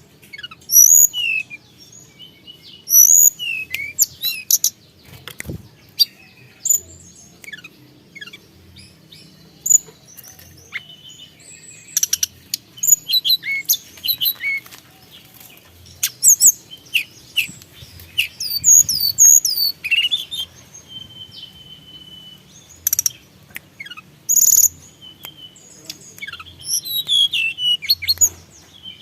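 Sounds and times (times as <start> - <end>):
songbird chirping and whistling: 0.2 - 29.0.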